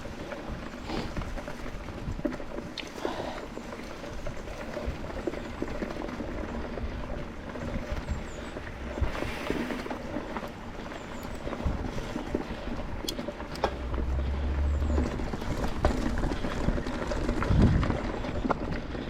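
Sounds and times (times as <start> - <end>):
bike clicks and rattles: 0.0 - 19.0
bike tyres on dirt: 0.0 - 19.0
wind rumble on microphone: 0.0 - 19.0.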